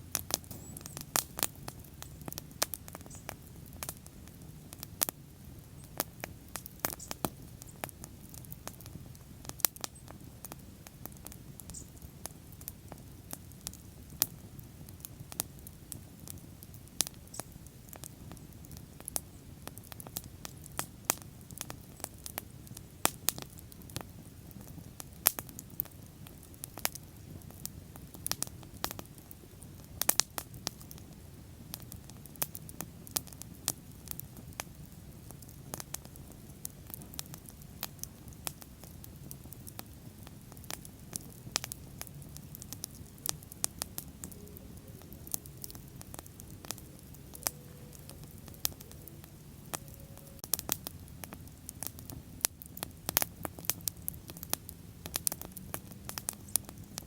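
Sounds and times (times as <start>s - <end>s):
bonfire crackling: 0.0s - 57.0s.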